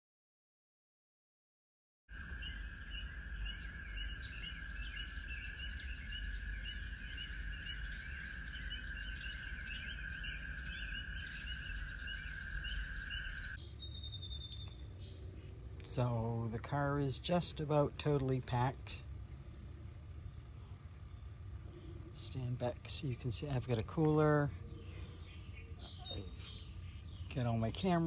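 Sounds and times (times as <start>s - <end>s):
birds chirping: 2.1s - 28.0s.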